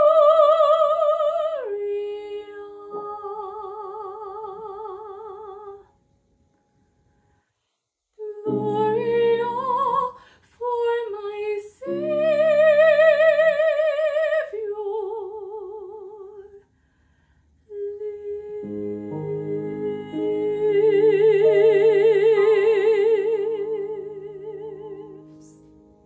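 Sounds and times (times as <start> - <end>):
woman singing operatically: 0.0 - 5.8, 8.2 - 16.6, 17.7 - 25.6.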